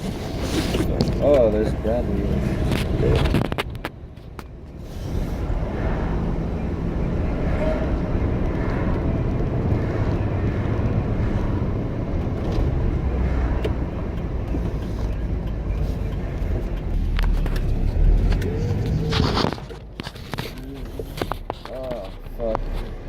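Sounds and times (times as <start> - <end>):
engine and road noise rumble: 0.0 - 23.0.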